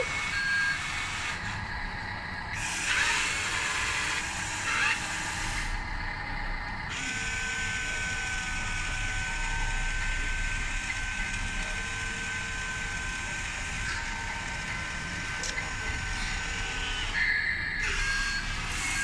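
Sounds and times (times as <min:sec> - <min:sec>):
small electric motors whining: 0:00.0 - 0:19.0.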